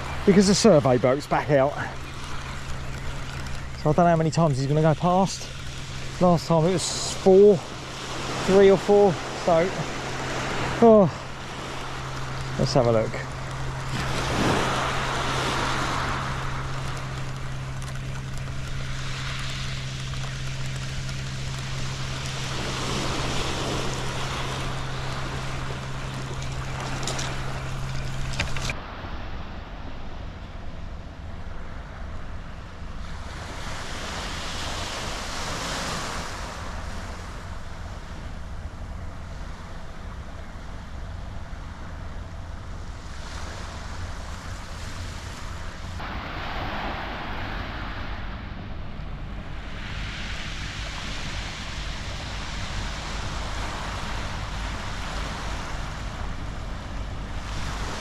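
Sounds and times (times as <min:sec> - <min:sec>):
waves washing onto shingle beach: 0:00.0 - 0:29.1, 0:32.6 - 0:48.4, 0:49.2 - 0:58.0
steady low hum: 0:00.0 - 0:58.0.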